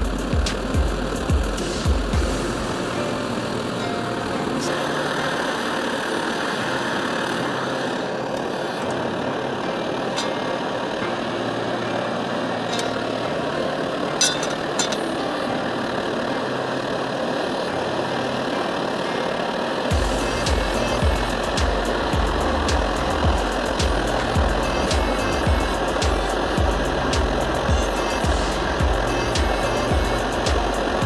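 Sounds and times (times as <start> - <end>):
camp stove roaring: 0.0 - 31.0.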